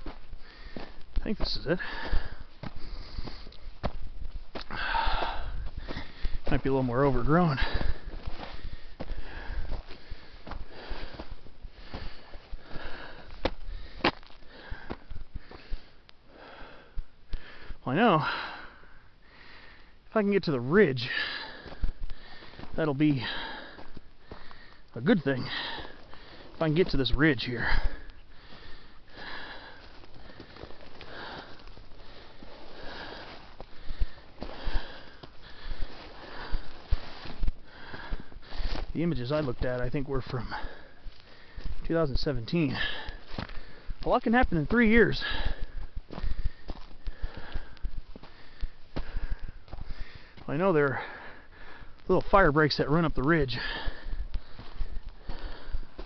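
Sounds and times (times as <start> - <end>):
person breathing hard: 0.0 - 6.5, 7.5 - 20.1, 21.0 - 26.6, 27.5 - 38.9, 40.4 - 41.8, 42.7 - 44.0, 45.2 - 52.1, 53.5 - 56.0
footsteps on gravel: 0.0 - 15.8, 20.4 - 56.0.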